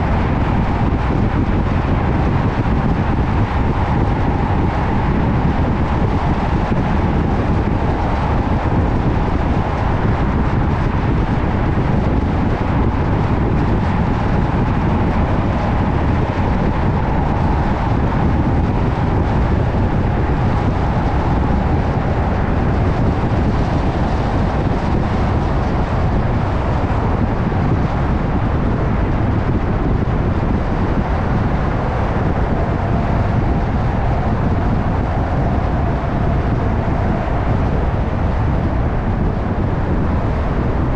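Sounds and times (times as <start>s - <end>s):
car road and engine noise: 0.0s - 40.9s
faint steady whine: 0.0s - 40.9s.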